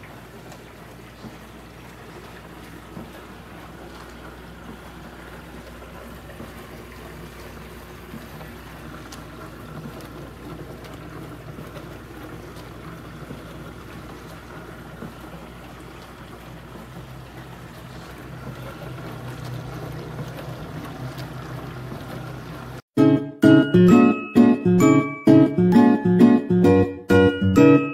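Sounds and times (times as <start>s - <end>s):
dishwasher motor hum: 0.0s - 27.9s
water spraying inside dishwasher: 0.0s - 27.9s.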